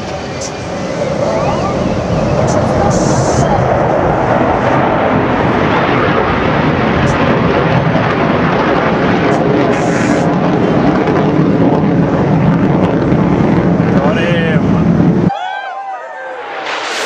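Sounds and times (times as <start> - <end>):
jet engines in afterburner: 0.0 - 15.3, 16.2 - 17.0.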